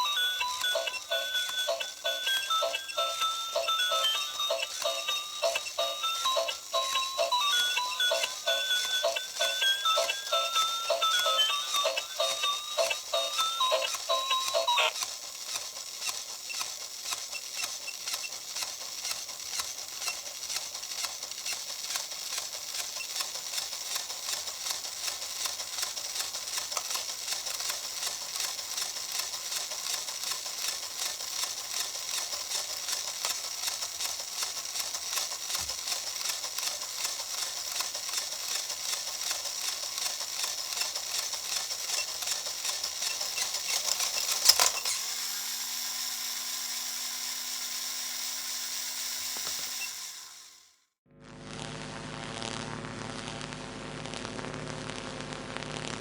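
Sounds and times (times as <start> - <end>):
marble run fast clicking rattle: 0.1 - 45.0.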